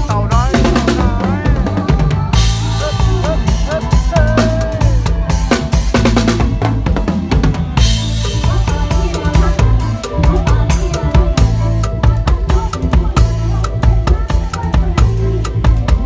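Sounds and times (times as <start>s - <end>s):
bass: 0.0s - 16.0s
drum kit beat: 0.0s - 16.0s
live band music: 0.0s - 16.0s.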